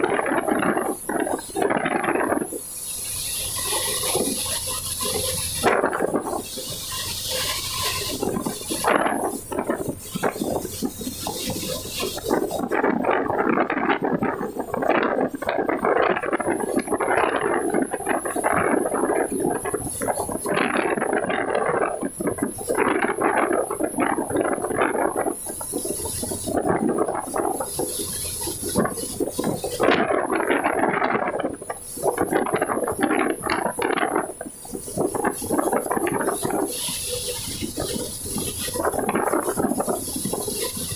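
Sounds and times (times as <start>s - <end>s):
heavy rain: 0.0s - 40.9s
rushing splashing water: 0.0s - 40.9s
thin high whine: 0.0s - 40.9s.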